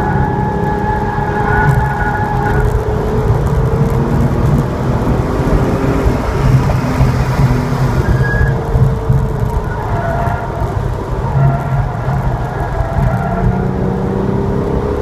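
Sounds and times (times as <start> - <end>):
car engine pulling hard: 0.0 - 15.0.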